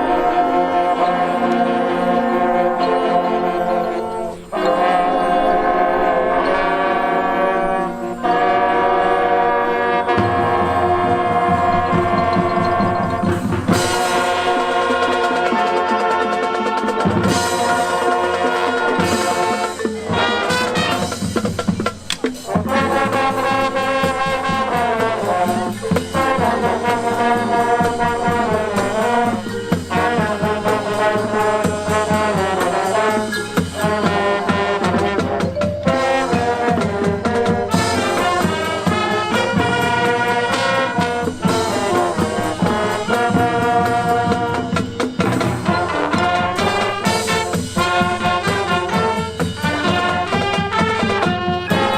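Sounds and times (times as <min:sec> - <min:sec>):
brass melody: 0:00.0 - 0:51.9
marching band drums: 0:06.4 - 0:51.9.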